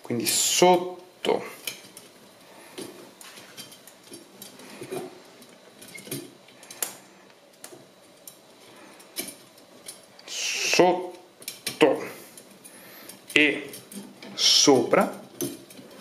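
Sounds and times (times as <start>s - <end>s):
bicycle spokes clicking and scraping: 0.0s - 16.0s.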